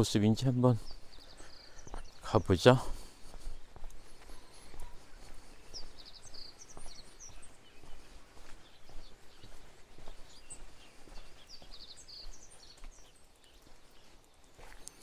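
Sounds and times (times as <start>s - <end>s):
footsteps on wet path: 0.0s - 15.0s
small birds chirping: 0.0s - 15.0s.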